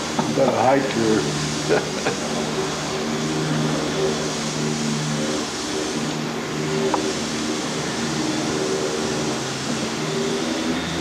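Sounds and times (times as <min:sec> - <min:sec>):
hiss: 0:00.0 - 0:11.0
machine hum: 0:00.0 - 0:11.0.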